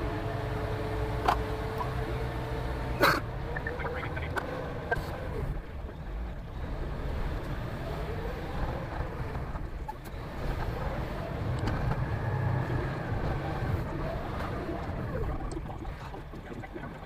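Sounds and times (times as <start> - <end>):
truck diesel engine driving: 0.0 - 17.0.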